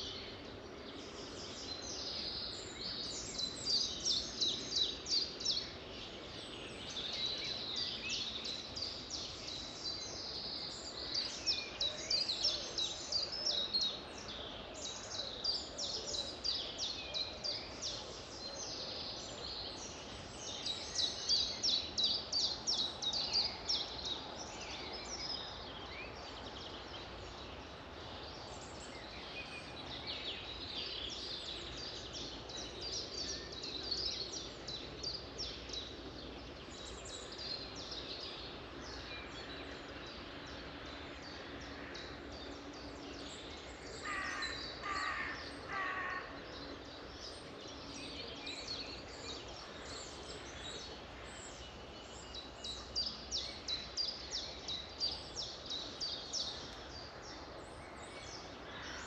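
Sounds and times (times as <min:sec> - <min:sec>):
background hiss: 0:00.0 - 0:59.0
songbirds chirping and trilling: 0:00.0 - 0:59.0.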